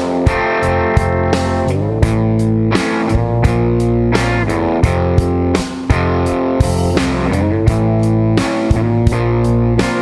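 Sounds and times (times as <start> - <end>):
electric guitar holding notes: 0.0 - 10.0
steady drum beat: 0.0 - 10.0.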